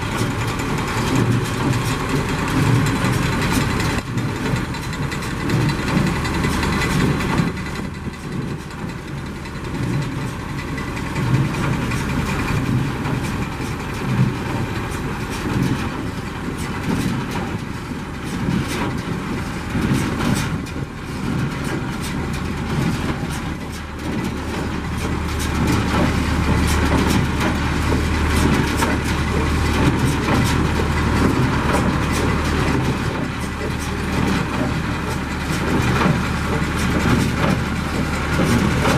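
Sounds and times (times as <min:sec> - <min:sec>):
hay baler clattering and knocking: 0:00.0 - 0:38.9
tractor engine running: 0:00.0 - 0:38.9.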